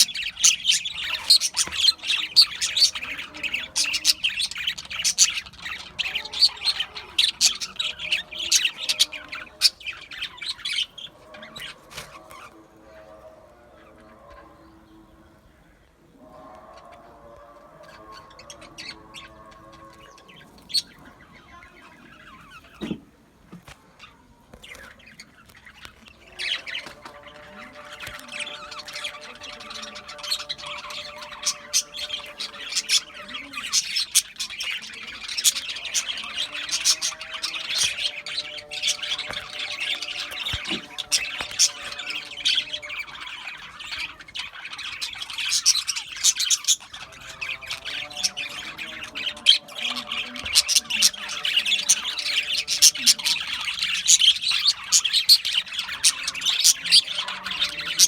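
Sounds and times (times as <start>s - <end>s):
budgerigars chattering: 0.0s - 13.2s, 17.8s - 23.0s, 24.0s - 58.0s.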